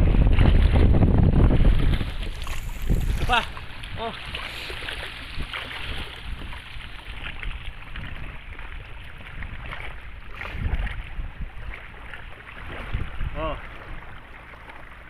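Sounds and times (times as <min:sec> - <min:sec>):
sea water sloshing and splashing: 0:00.0 - 0:15.0
wind rumbling on microphone: 0:00.0 - 0:15.0.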